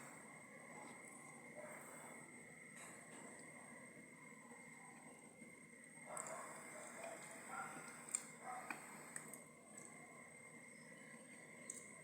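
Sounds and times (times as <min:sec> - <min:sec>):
faint high-pitched hum: 0:00.0 - 0:12.0.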